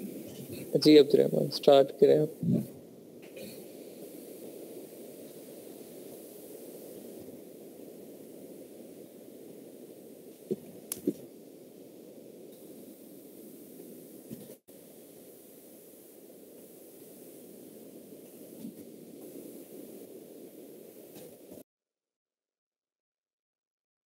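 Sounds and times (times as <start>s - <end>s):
microphone hiss and static: 0.0s - 21.6s.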